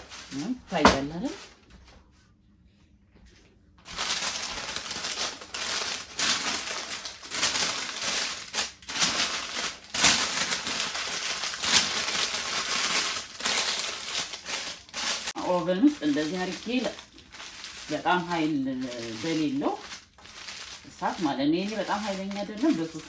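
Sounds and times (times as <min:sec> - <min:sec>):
wrapping crinkling: 0:00.0 - 0:01.5, 0:03.9 - 0:23.0.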